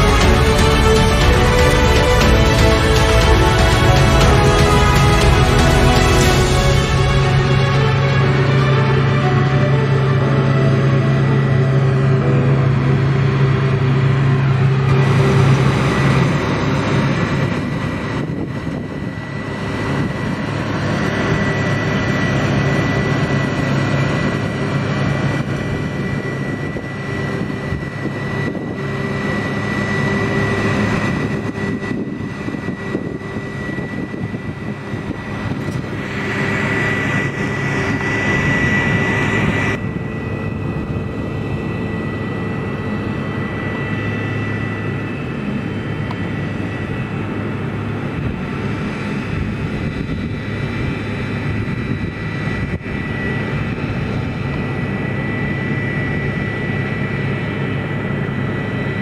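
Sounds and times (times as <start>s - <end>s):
combine harvester engine drone: 0.0s - 59.0s
high whine: 0.0s - 59.0s.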